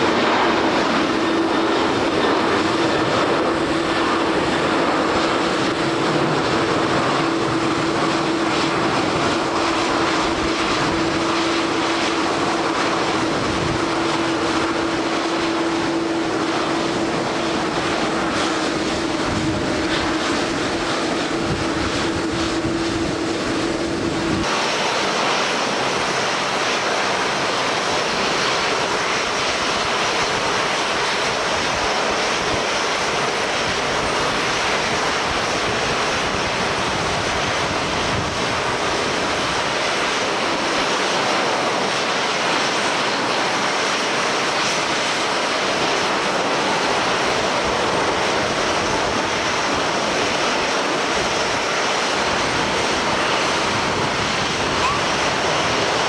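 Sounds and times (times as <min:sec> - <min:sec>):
jet engine hum: 0:00.0 - 0:56.0
strong wind: 0:00.0 - 0:56.0.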